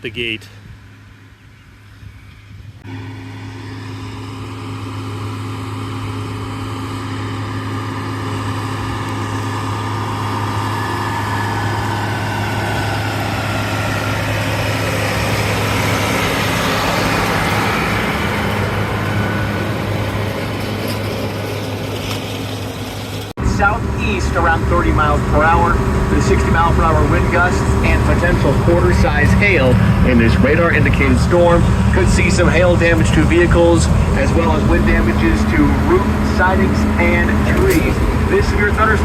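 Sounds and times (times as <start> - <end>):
tractor engine running: 0.1 - 39.0
rushing noise: 2.8 - 39.0.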